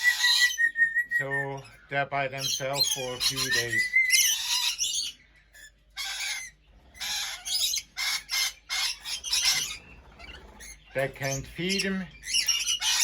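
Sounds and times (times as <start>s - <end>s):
lorikeets squawking: 0.0s - 13.0s.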